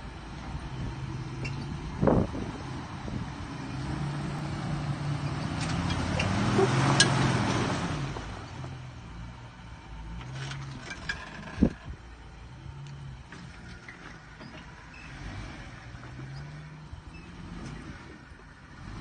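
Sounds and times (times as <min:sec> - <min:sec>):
engine working under load: 0:00.0 - 0:19.0.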